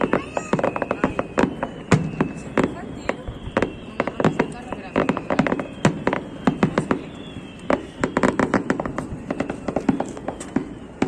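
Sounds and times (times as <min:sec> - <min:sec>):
faint firework whistle: 0:00.0 - 0:11.0
fireworks bangs and crackles: 0:00.0 - 0:11.0.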